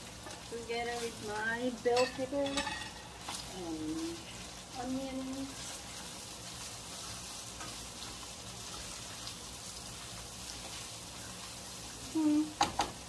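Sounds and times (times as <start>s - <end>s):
spatula stirring: 0.0s - 12.0s
food sizzling in a frying pan: 0.0s - 13.0s.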